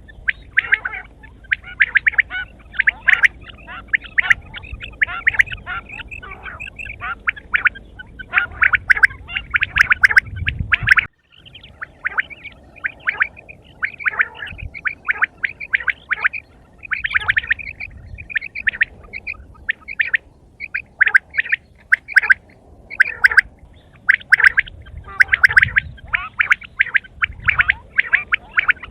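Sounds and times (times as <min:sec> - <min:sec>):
quail chirping: 0:00.0 - 0:28.9.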